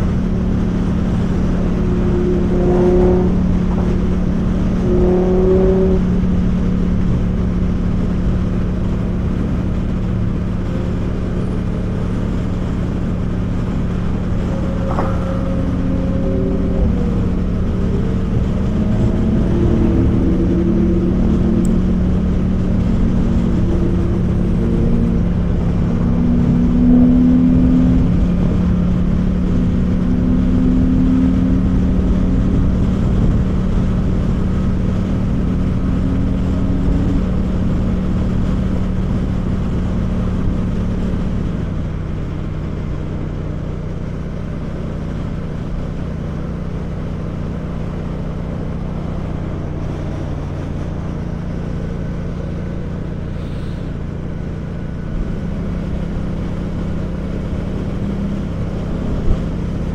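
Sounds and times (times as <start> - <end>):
wind rush on microphone: 0.0 - 53.3
motorcycle engine cruising: 0.0 - 59.9
passing traffic engines: 0.0 - 59.9.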